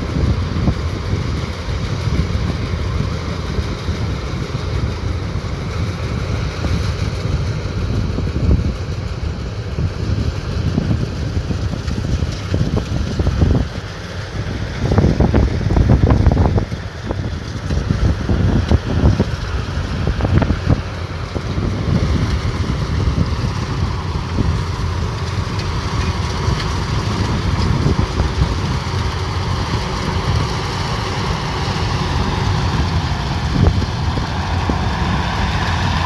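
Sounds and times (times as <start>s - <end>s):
combine harvester rumbling: 0.0s - 36.0s
wind buffeting microphone: 0.0s - 36.0s.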